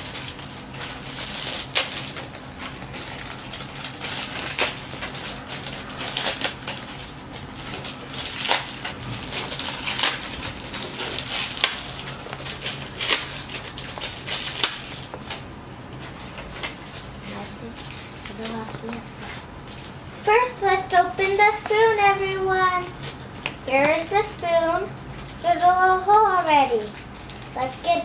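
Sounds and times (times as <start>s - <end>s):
plastic wrappers crinkling: 0.0s - 28.0s.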